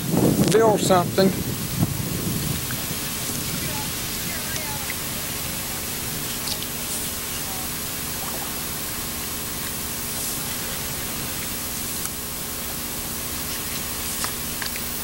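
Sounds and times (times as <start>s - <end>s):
paddles stroking and dripping water: 0.0s - 15.0s.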